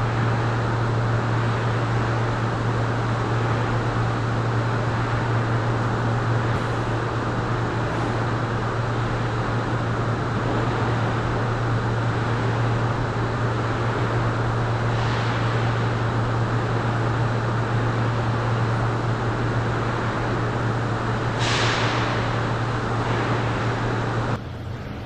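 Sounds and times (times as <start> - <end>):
conveyor machinery hum: 0.0 - 25.0.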